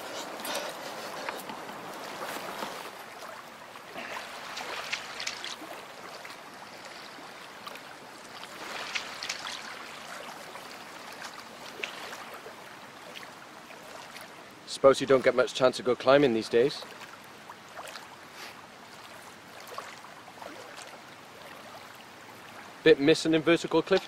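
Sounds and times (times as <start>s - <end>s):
small waves lapping on stones: 0.0s - 14.4s, 16.6s - 22.8s
water splashes: 0.0s - 24.0s.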